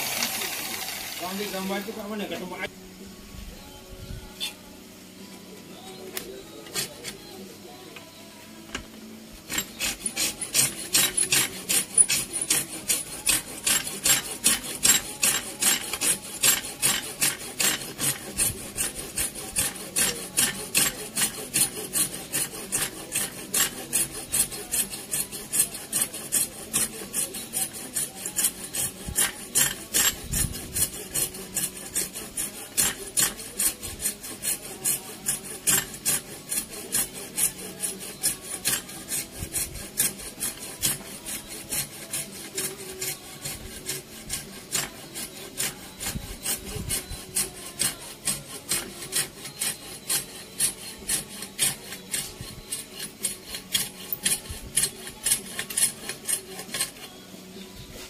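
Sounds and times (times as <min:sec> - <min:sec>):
hand rasp filing wood: 0:06.2 - 0:07.3, 0:09.4 - 0:58.0.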